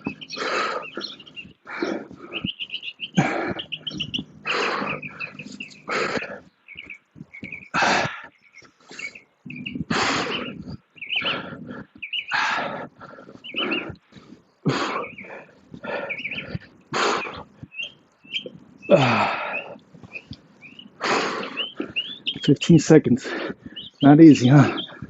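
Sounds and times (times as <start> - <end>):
hard rhythmic breathing: 0.0 - 25.0
small birds chirping: 0.0 - 25.0.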